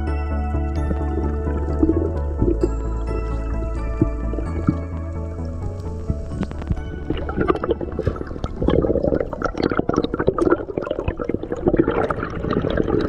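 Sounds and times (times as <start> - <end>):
water bubbling and gurgling: 0.0 - 13.0.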